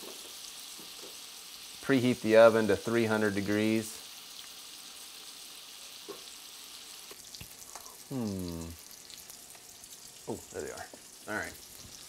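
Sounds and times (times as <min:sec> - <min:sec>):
onions sizzling in fat: 0:00.0 - 0:12.0.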